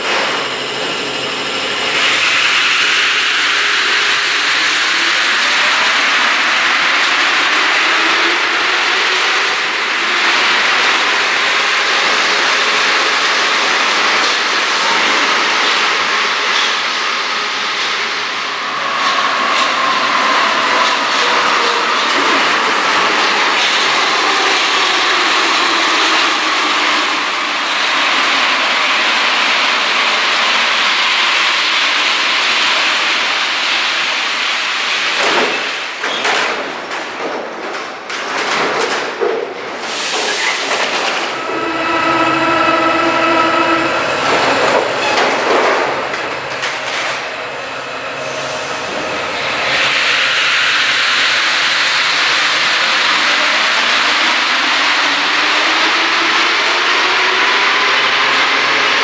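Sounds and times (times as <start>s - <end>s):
train tyres and traction rush: 0.0s - 59.0s.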